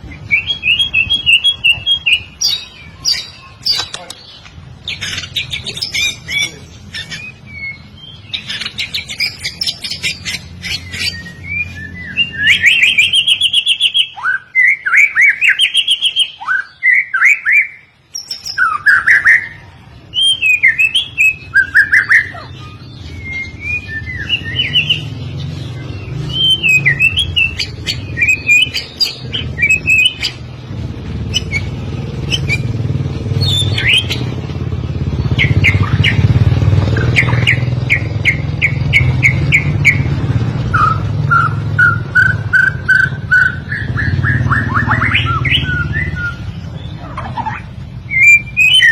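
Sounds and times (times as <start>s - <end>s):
bird singing whistled phrases: 0.2s - 25.2s, 25.8s - 30.4s, 31.3s - 32.7s, 33.4s - 34.3s, 35.3s - 36.3s, 37.0s - 40.1s, 40.7s - 48.9s.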